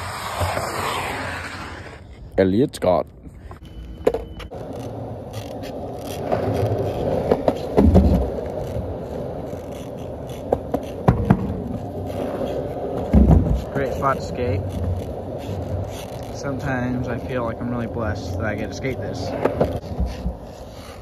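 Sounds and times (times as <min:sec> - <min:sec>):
skateboard wheels rumbling: 0:00.0 - 0:02.5, 0:03.7 - 0:21.0.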